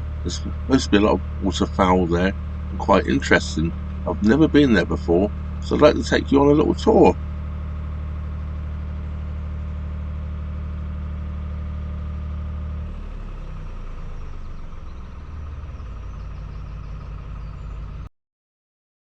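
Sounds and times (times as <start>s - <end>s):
diesel engine running: 0.0s - 18.1s.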